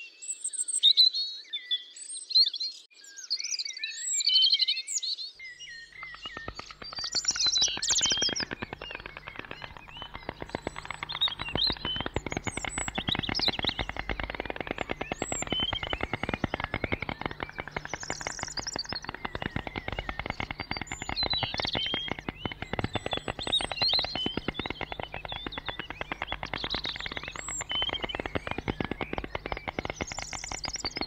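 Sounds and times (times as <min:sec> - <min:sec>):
small songbirds chirping: 0:05.2 - 0:31.0
stork bill-clattering: 0:05.9 - 0:31.0.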